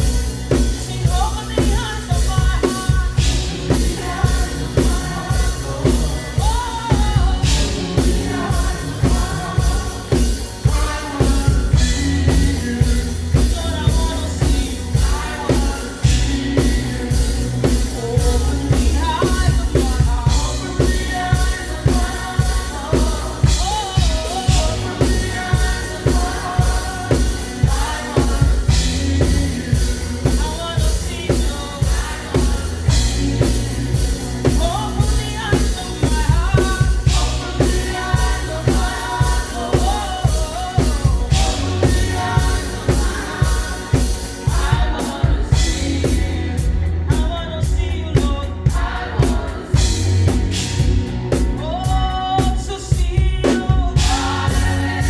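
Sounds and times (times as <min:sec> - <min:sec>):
drum kit beat: 0:00.0 - 0:55.0
gospel band playing: 0:00.0 - 0:55.0
people singing: 0:00.0 - 0:55.0.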